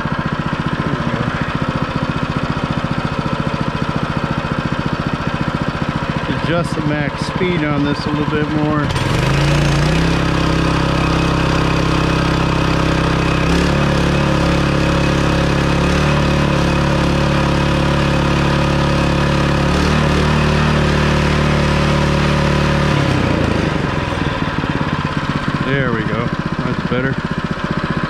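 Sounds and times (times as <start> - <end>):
gas engine running fast: 0.0 - 28.0.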